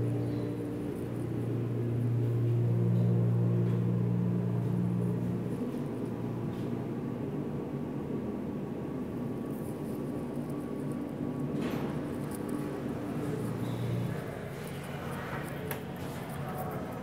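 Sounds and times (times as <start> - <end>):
elevator machine hum: 0.0 - 17.0.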